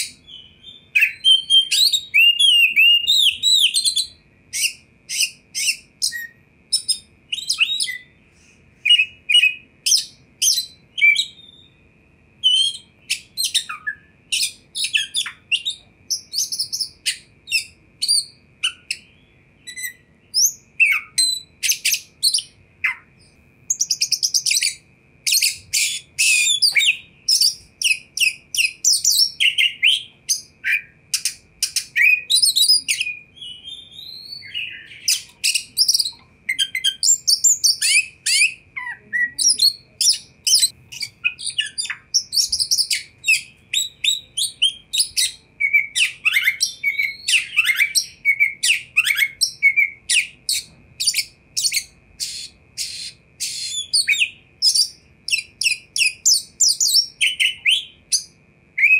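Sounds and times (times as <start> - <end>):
bird whistling and chirping: 0.0 - 11.8, 12.4 - 58.9.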